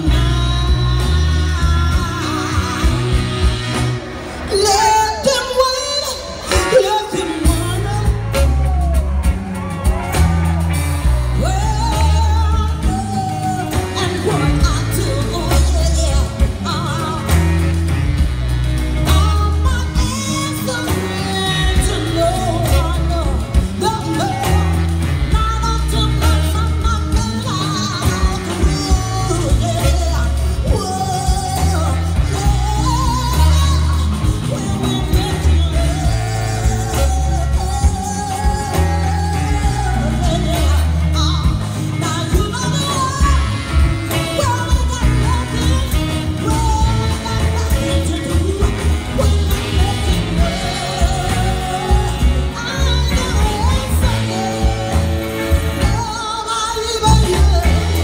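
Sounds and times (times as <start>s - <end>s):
live soul band: 0.0s - 58.0s
woman singing: 0.0s - 58.0s.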